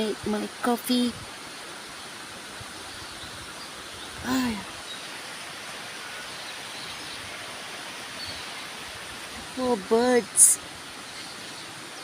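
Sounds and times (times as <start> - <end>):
heavy rain falling: 2.1 - 12.0.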